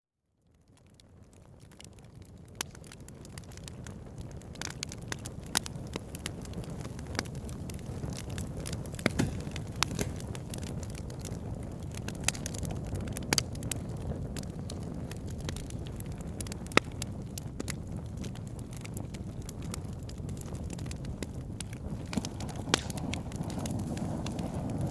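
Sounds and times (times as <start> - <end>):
firewood crackling and popping: 0.4 - 24.9
low rumble of flames: 0.4 - 24.9.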